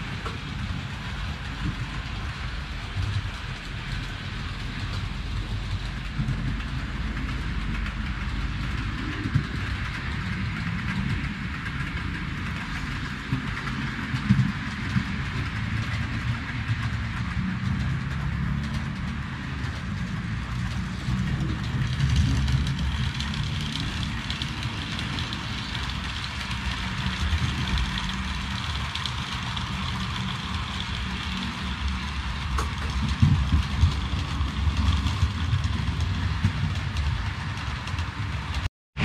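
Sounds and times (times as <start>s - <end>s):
model train wheels rolling on track: 0.0s - 38.7s
clicks over rail joints: 0.1s - 38.7s.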